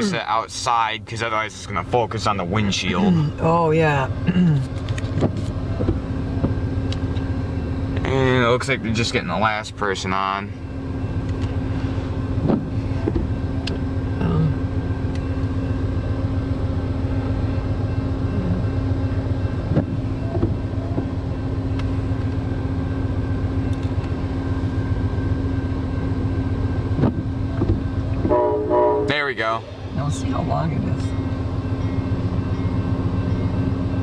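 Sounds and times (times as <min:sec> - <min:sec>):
car engine hum: 0:00.0 - 0:34.0.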